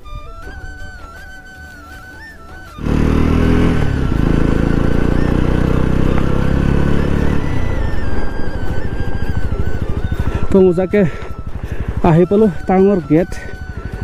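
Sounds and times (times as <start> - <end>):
motorcycle engine running: 2.6 - 14.0.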